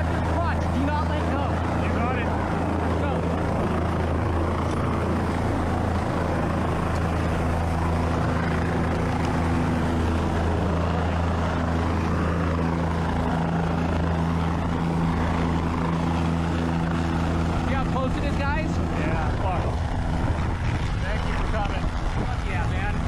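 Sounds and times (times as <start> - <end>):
helicopter drone: 0.0 - 23.0.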